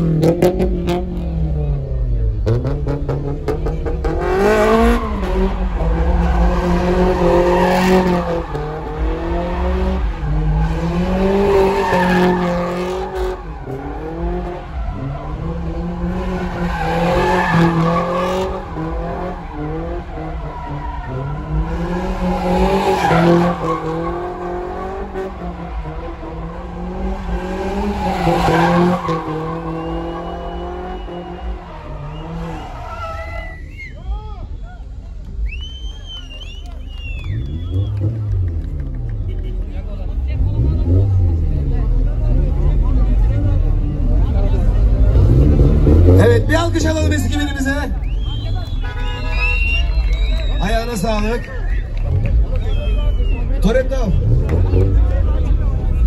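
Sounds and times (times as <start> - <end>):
car engine revving: 0.0 - 33.6, 35.1 - 56.0.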